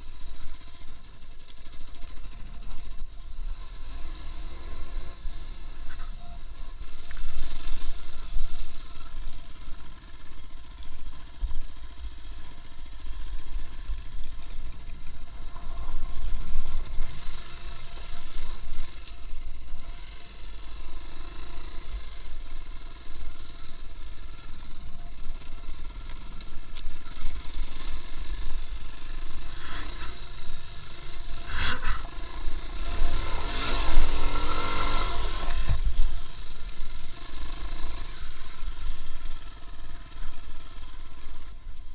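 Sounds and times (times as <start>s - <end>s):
vehicle engine and road noise: 0.0s - 41.9s.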